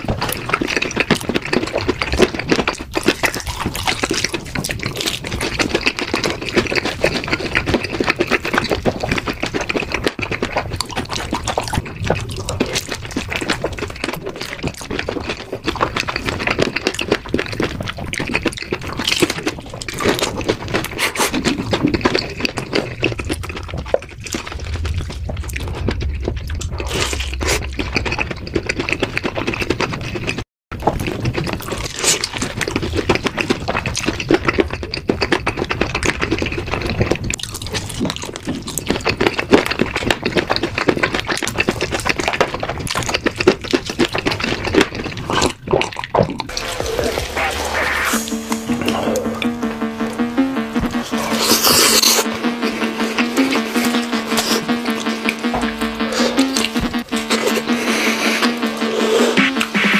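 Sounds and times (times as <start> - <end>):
crunchy fried chicken chewing: 0.0 - 59.9.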